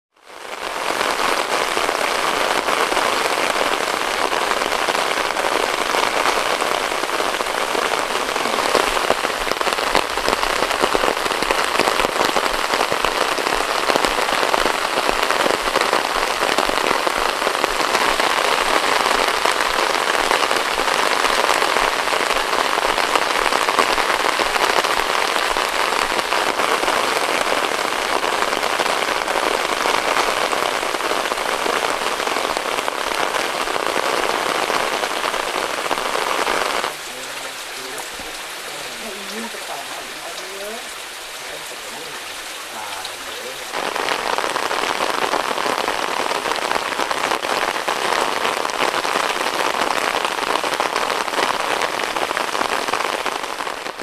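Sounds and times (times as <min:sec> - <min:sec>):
heavy rain: 0:00.1 - 0:54.0.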